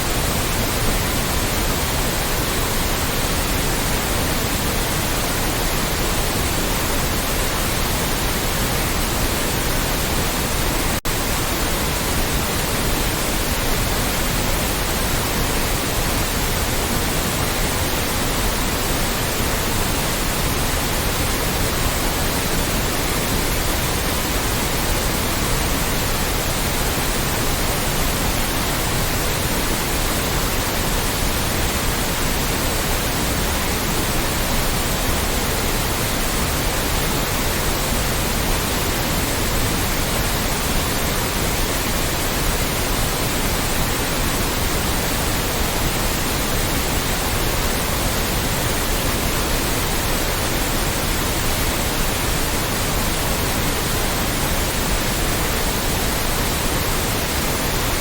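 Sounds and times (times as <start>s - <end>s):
loud white noise hiss: 0.0s - 58.0s.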